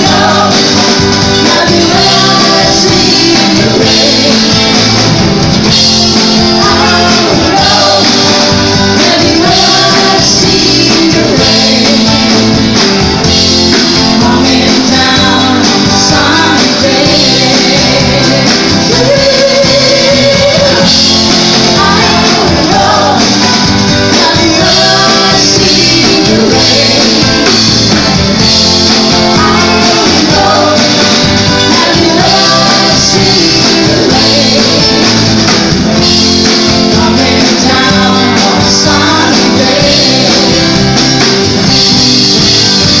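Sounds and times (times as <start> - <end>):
woman singing lead: 0.0 - 5.0, 5.8 - 13.0, 13.6 - 42.7
drum kit: 0.0 - 43.0
keyboard: 0.0 - 43.0
strummed acoustic guitars: 0.0 - 43.0.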